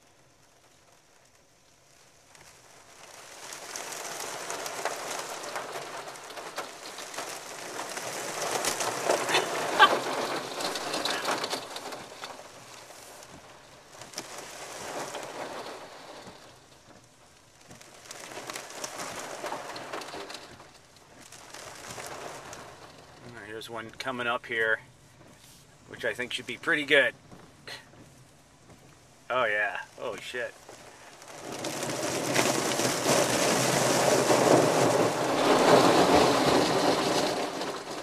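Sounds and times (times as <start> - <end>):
water splashing on windshield: 0.0 - 38.0.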